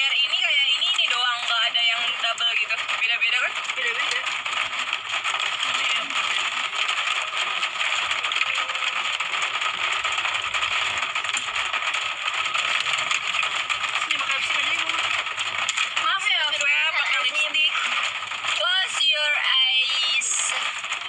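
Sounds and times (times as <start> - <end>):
rain on a car roof: 0.0 - 21.0.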